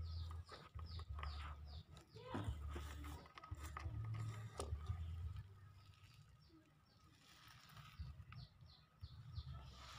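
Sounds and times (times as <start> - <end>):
small bird chirping: 0.0 - 9.9.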